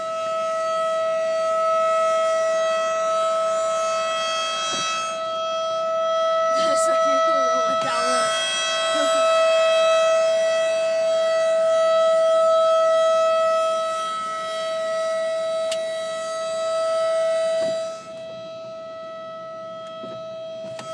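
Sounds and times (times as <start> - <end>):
warning siren steady tone: 0.0 - 20.9.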